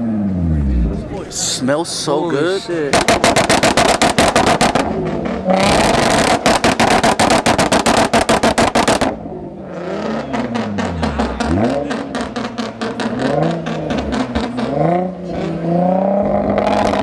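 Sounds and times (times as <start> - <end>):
car engine revving: 2.8 - 17.0
exhaust popping: 2.8 - 17.0.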